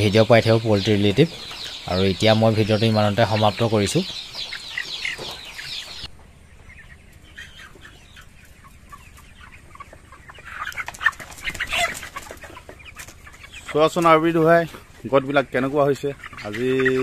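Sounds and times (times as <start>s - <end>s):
chickens peeping and clucking: 0.0s - 17.0s.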